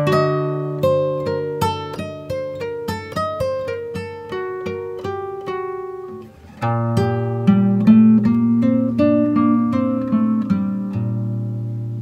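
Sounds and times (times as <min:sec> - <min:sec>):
plucked melody: 0:00.0 - 0:12.0.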